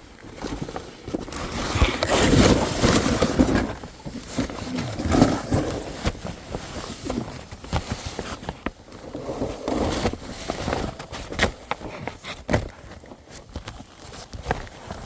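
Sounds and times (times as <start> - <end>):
scraping and crunching over dirt: 0.2 - 15.0.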